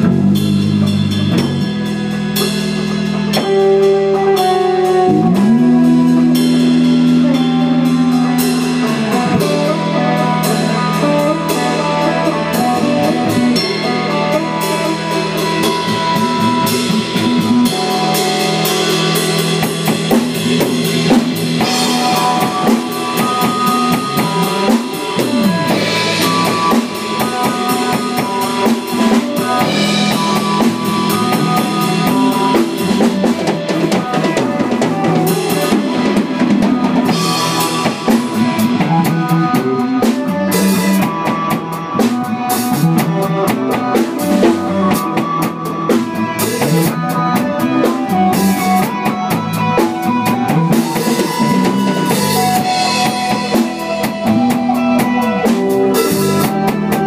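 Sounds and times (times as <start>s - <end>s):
band jamming: 0.0s - 57.0s
drum kit playing: 0.0s - 57.0s.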